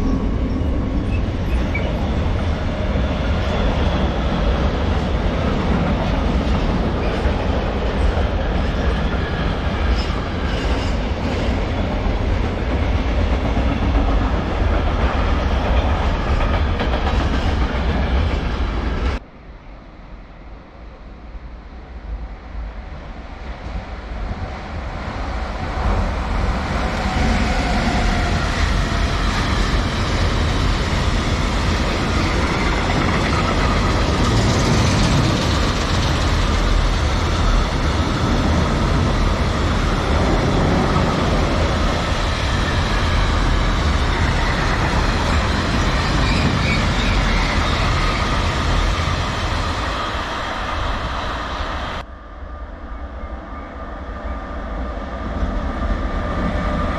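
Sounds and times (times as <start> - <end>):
train passing on rails: 0.0 - 56.9.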